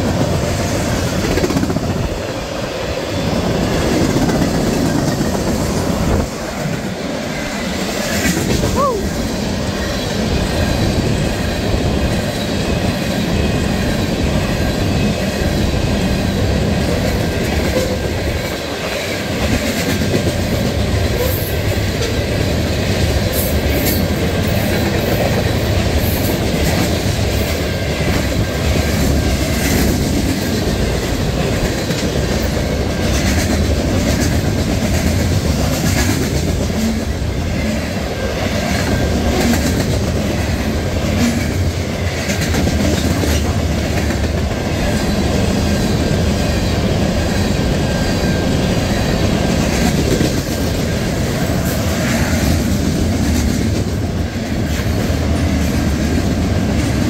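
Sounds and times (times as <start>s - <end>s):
clickety-clack over rail joints: 0.0s - 57.0s
train wheels rumbling on rail: 0.0s - 57.0s.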